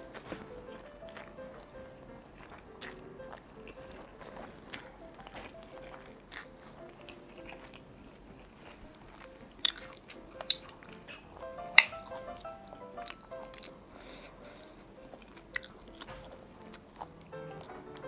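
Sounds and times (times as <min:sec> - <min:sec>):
chewing and biting seafood: 0:00.0 - 0:18.0.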